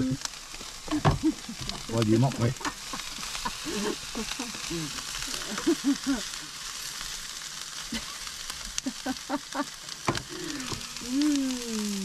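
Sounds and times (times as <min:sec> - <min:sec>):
onions sizzling in a frying pan: 0:00.0 - 0:12.0.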